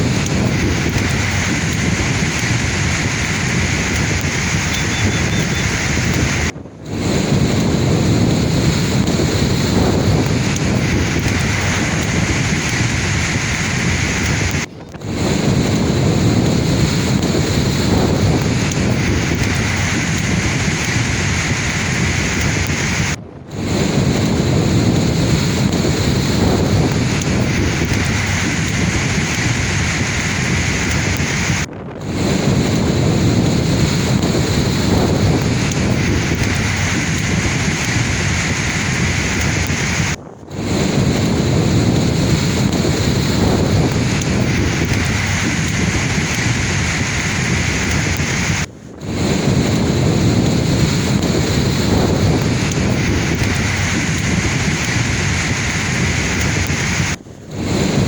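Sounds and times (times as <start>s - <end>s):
sea waves washing in: 0.0s - 58.0s.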